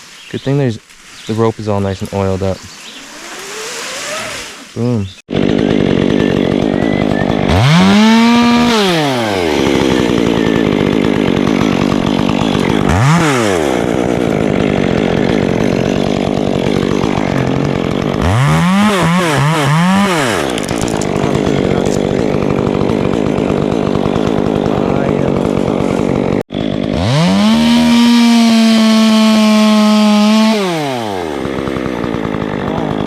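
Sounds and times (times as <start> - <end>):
chainsaw engine revving: 1.7 - 33.0.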